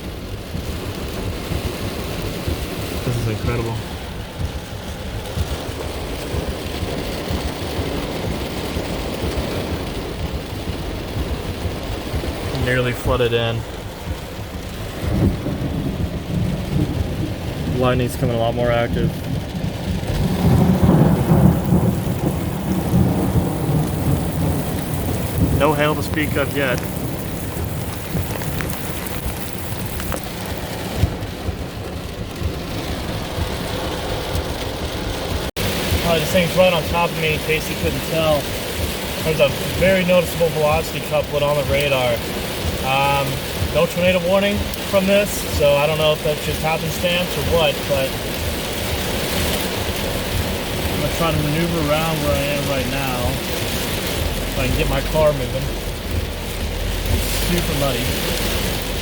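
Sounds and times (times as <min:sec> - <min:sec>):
heavy rain drumming on car roof: 0:00.0 - 0:59.0
low rumble of thunder: 0:00.0 - 0:59.0.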